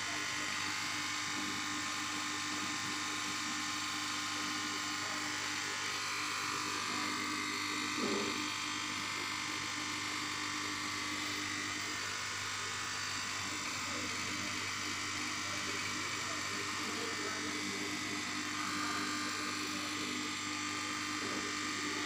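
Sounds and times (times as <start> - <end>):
aquarium air pump hum: 0.0 - 22.0.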